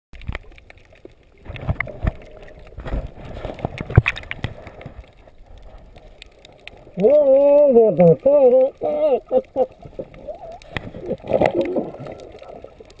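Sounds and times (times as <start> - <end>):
underwater knocks and clicks: 0.2 - 6.9, 9.3 - 13.0
rushing water: 0.2 - 13.0.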